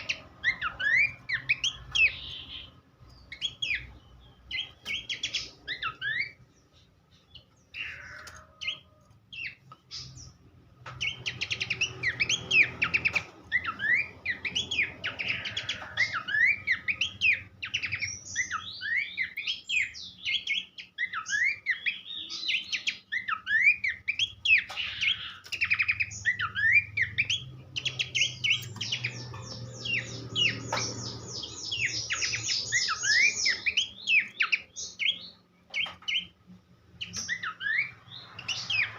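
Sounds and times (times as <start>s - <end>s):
bird singing chirps and whistles: 0.0s - 10.4s, 11.0s - 38.9s.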